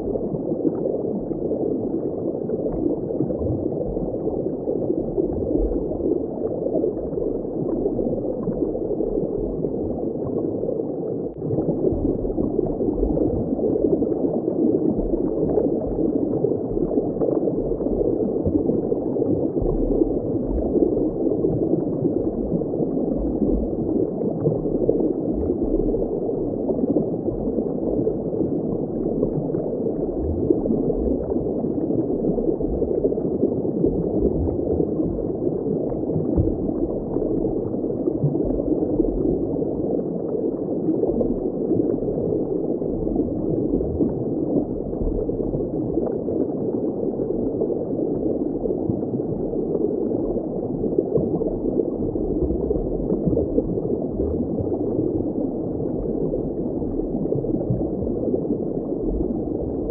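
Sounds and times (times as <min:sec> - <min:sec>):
low underwater rumbles: 0:00.0 - 0:59.9
underwater bubbling wash: 0:00.0 - 0:59.9.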